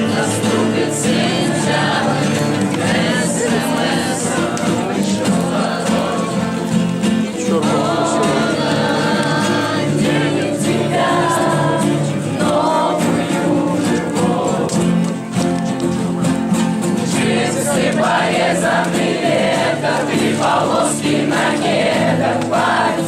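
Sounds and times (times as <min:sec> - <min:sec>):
group of people singing: 0:00.0 - 0:23.0
instrumental accompaniment: 0:00.0 - 0:23.0.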